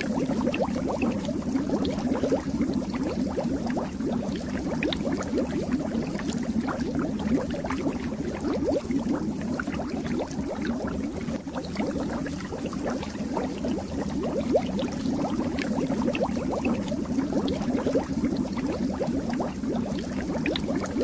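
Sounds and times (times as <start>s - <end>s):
fish tank water bubbling: 0.0s - 21.0s.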